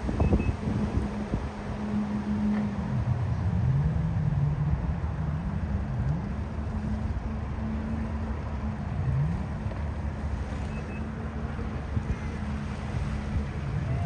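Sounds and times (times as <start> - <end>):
engine holding a steady note: 0.0 - 14.0.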